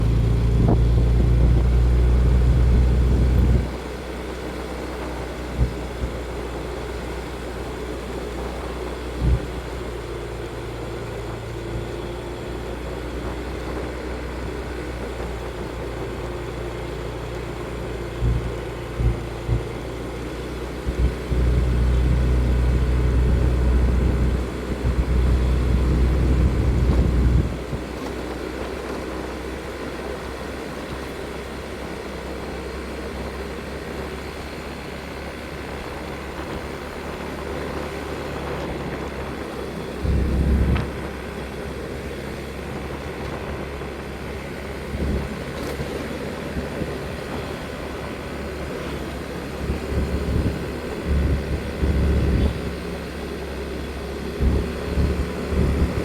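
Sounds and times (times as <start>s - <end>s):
motorcycle engine rumble: 0.0s - 56.0s.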